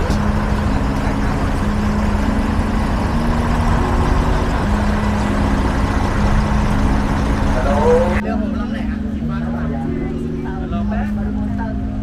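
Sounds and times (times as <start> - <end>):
engines and traffic din: 0.0 - 12.0
held music notes: 0.0 - 12.0.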